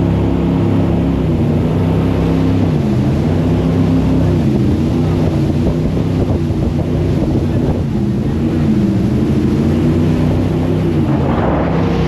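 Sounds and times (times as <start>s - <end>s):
jet boat engine running: 0.0s - 12.0s
rushing water: 0.0s - 12.0s.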